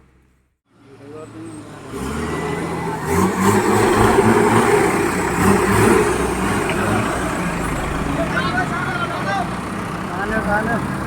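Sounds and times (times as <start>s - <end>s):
diesel engine running hard: 0.7s - 11.0s.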